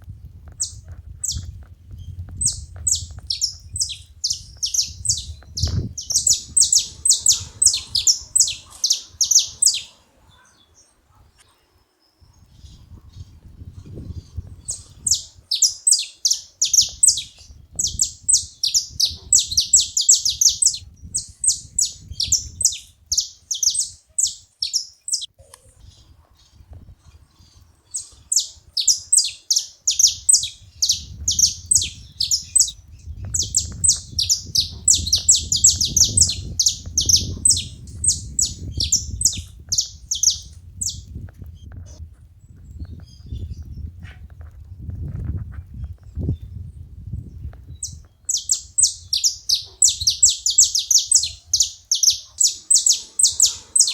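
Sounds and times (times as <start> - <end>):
finches chirping: 2.4 - 11.5, 12.6 - 41.1, 47.7 - 53.9.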